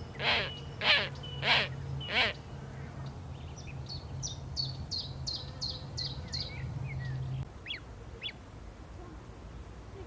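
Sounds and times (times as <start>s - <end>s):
birds calling: 0.0s - 8.4s.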